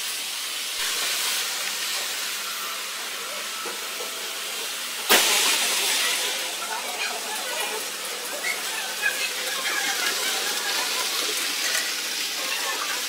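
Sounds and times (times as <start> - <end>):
model trains hissing: 0.0 - 13.0.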